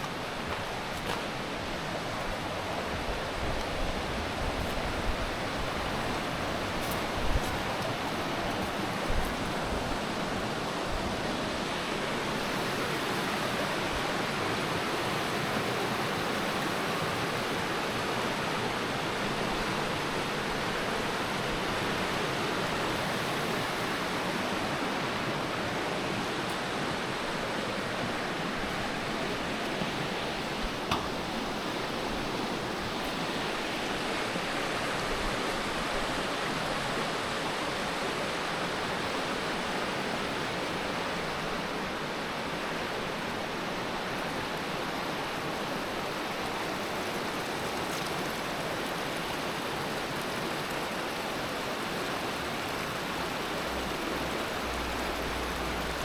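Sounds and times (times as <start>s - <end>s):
fast-flowing river water: 0.0s - 56.0s.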